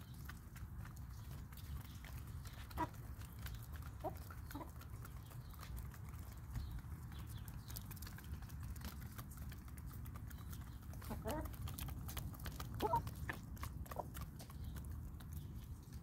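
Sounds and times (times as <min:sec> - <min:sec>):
beaks tapping on wet concrete: 0:00.0 - 0:16.0
chickens clucking: 0:00.2 - 0:16.0.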